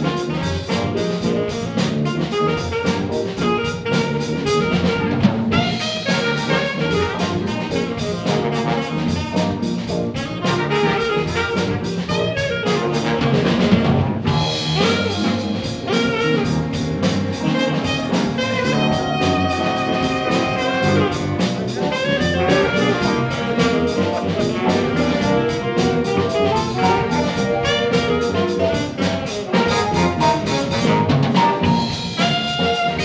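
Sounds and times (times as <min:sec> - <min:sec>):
jazz big band playing: 0:00.0 - 0:33.0.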